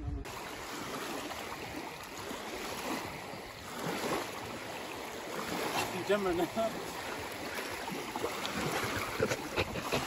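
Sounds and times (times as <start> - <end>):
water lapping around waders: 0.2 - 10.0.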